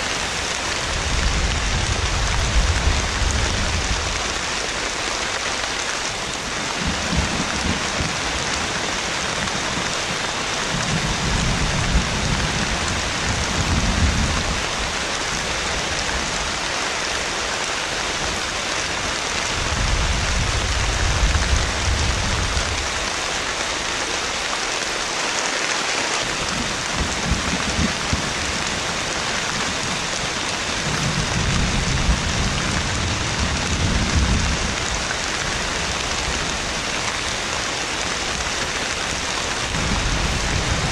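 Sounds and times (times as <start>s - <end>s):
thunder rumbling: 0.0s - 5.0s, 6.2s - 16.6s, 18.2s - 23.3s, 26.2s - 40.9s
heavy rain: 0.0s - 40.9s.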